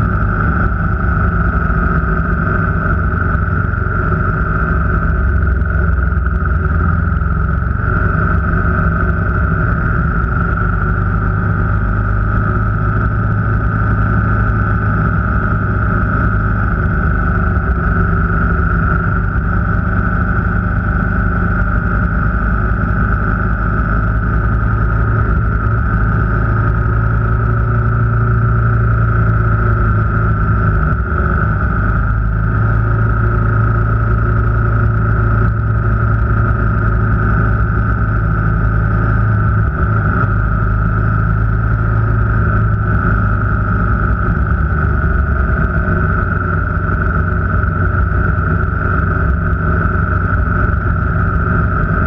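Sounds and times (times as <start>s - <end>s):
road noise: 0.0s - 52.0s
vehicle engine droning: 0.0s - 52.0s.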